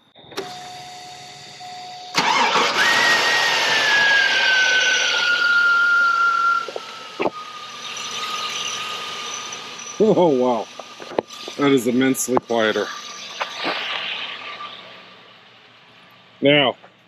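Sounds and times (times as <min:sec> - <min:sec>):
engine whine: 0:00.0 - 0:17.0
truck engine starting and idling: 0:00.3 - 0:17.0.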